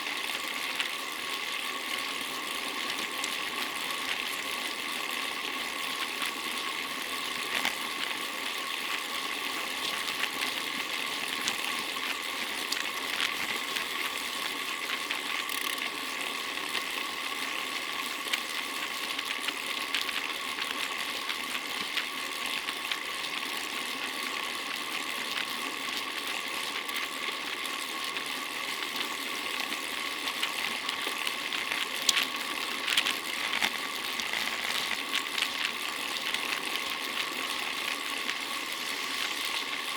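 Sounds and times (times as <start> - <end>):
bicycle chain and tyres whirring: 0.0 - 39.9.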